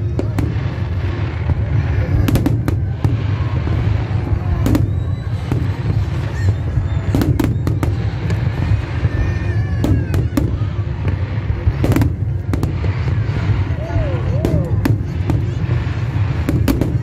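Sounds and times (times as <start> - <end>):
deep rumble of bursting shells: 0.0 - 17.0
sharp firework cracks: 0.0 - 17.0.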